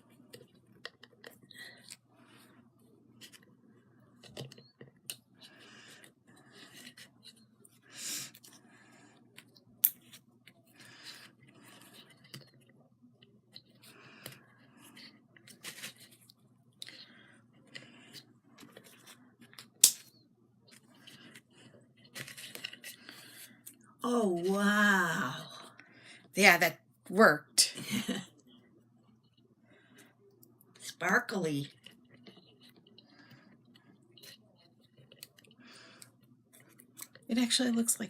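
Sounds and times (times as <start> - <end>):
light clicks taps and scrapes: 0.0 - 2.6, 4.1 - 23.8, 28.5 - 37.9.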